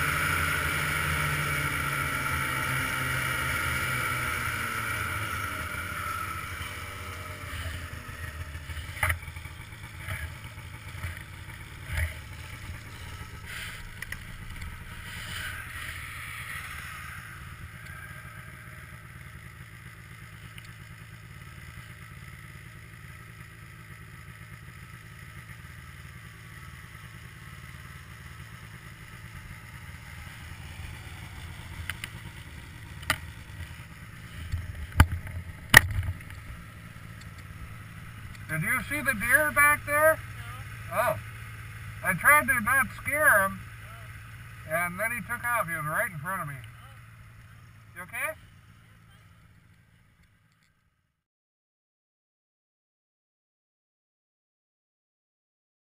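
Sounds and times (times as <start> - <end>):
snowmobile engine running: 0.0 - 50.6.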